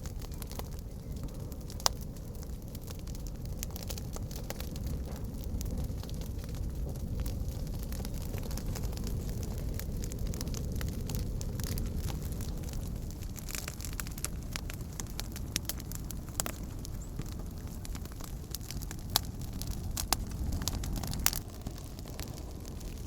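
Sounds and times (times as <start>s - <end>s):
campfire flame rushing: 0.0s - 23.0s
fire crackles and pops: 0.0s - 23.0s
steady low rumble: 0.0s - 23.0s.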